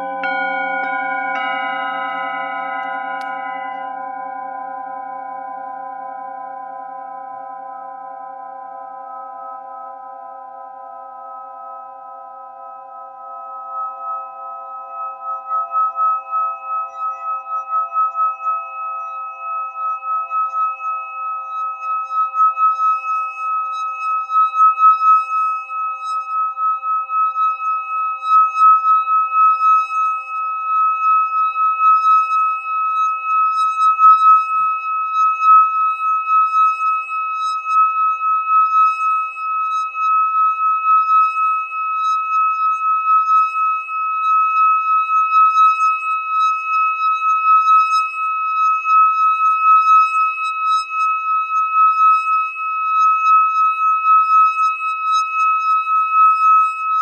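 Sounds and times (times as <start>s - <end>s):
low tones from other bowls: 0.0s - 57.0s.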